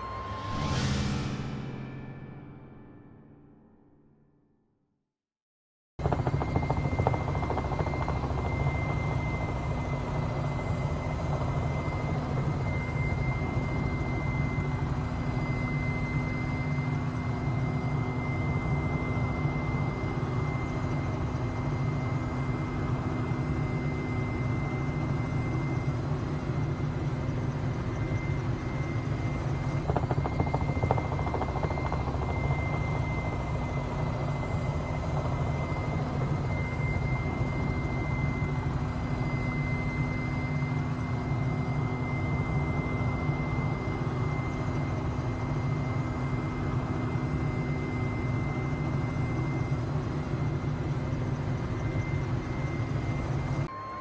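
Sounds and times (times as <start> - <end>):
helicopter whine: 0.0 - 3.5, 6.0 - 54.0
helicopter low rumble: 6.0 - 53.7.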